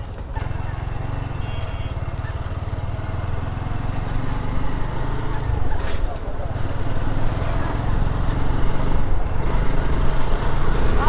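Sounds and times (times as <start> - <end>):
motorcycle engine pulling away: 0.0 - 11.0.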